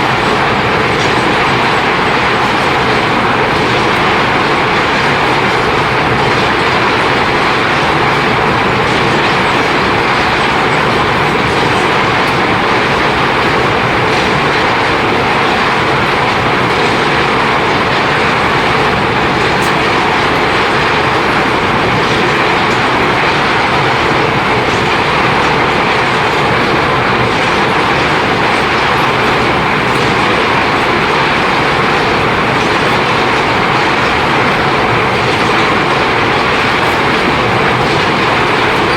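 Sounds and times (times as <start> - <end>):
ore grinding mill machinery: 0.0 - 38.9.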